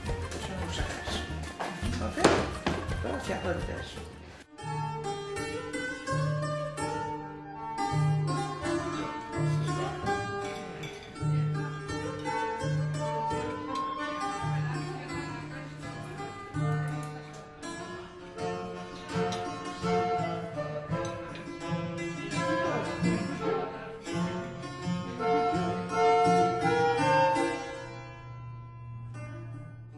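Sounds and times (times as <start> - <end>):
plucked string instrumental music: 0.0 - 29.9.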